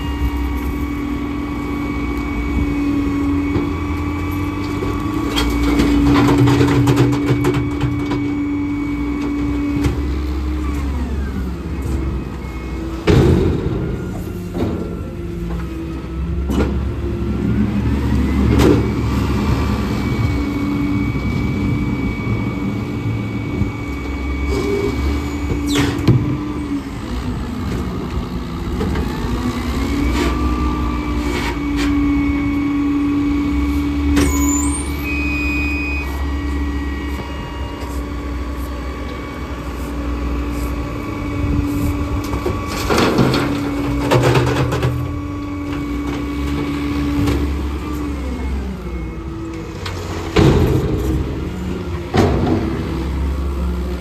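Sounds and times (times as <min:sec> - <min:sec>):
diesel engines running: 0:00.0 - 0:54.0
hydraulic whine: 0:00.0 - 0:54.0.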